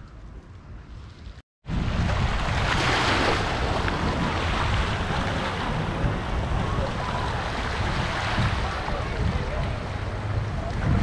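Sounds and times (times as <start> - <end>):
wind buffeting microphone: 0.0 - 11.0
sea waves on rocky shore: 1.7 - 11.0.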